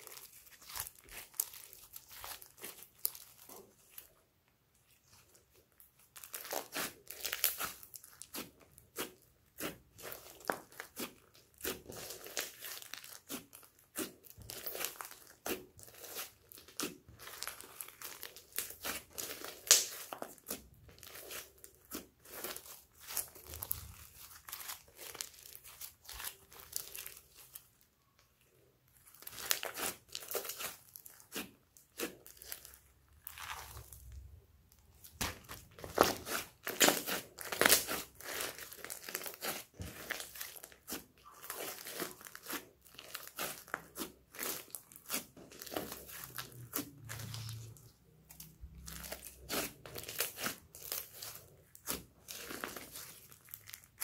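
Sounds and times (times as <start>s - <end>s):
slime crackling and popping: 0.0s - 4.1s, 5.0s - 28.2s, 28.9s - 54.0s.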